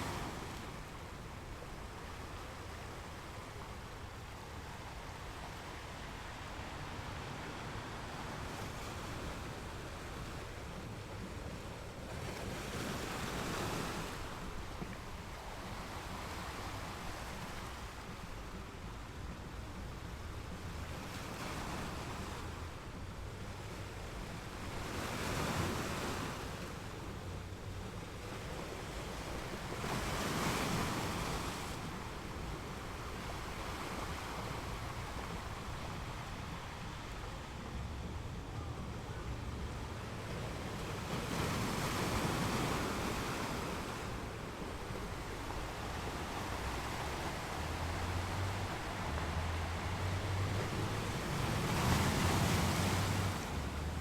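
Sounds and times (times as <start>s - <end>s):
ocean waves breaking on beach: 0.0s - 54.0s
wind rumble on microphone: 0.0s - 54.0s.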